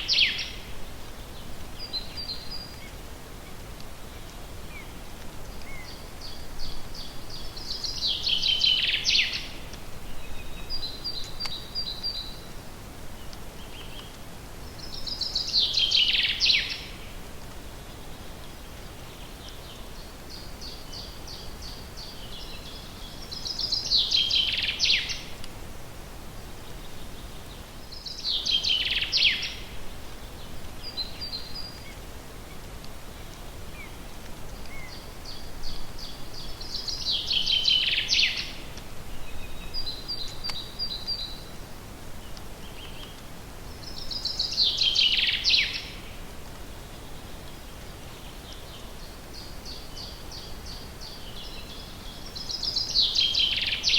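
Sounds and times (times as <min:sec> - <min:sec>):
background hiss: 0:00.0 - 0:53.9
songbird singing: 0:00.0 - 0:53.9.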